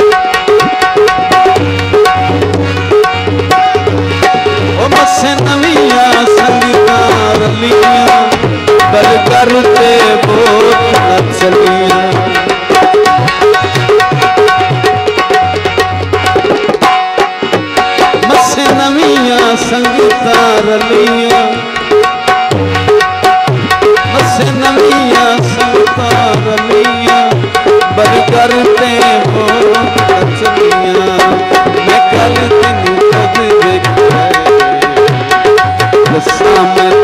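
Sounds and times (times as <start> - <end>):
fast hand drum rhythm: 0.0 - 37.0
harmonium melody: 0.0 - 37.0.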